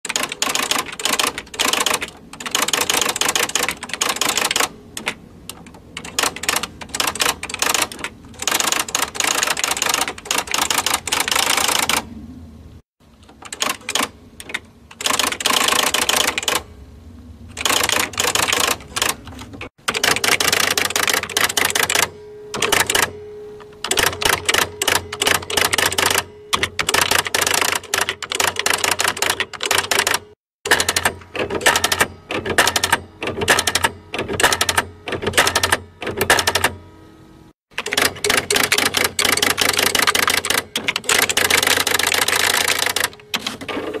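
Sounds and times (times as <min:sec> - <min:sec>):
typewriter key strikes: 0:00.1 - 0:12.0, 0:13.3 - 0:16.6, 0:17.5 - 0:23.1, 0:23.8 - 0:36.8, 0:37.7 - 0:43.8
typewriter motor hum: 0:00.1 - 0:12.1, 0:13.2 - 0:16.7, 0:17.5 - 0:23.2, 0:23.8 - 0:36.8, 0:37.7 - 0:44.0.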